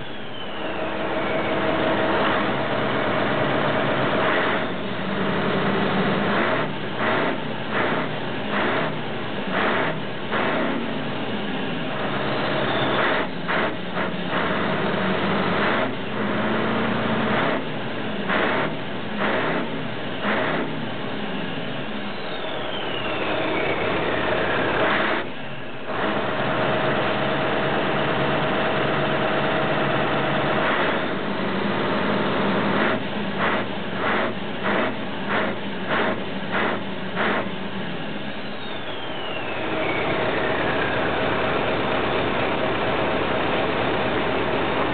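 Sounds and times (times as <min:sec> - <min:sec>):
falling whine: 0:00.0 - 0:44.9
truck engine revving: 0:00.0 - 0:44.9.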